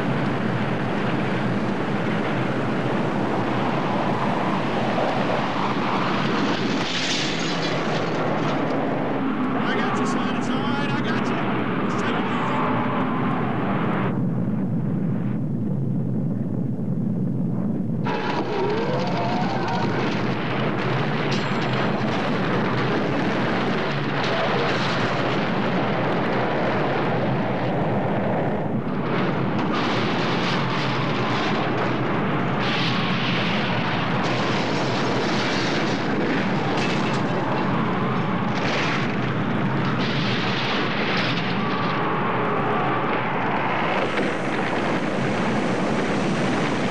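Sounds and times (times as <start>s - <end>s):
loud rumbling explosion blast: 0.0s - 46.9s.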